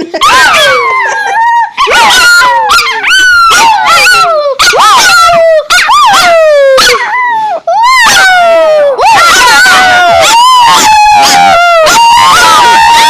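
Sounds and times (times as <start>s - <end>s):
dog howling and yowling: 0.2s - 13.0s.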